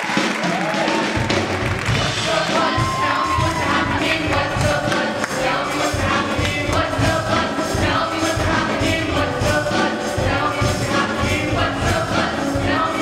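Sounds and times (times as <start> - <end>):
band accompaniment with drums: 0.0 - 13.0
group singing rock chorus: 1.8 - 13.0.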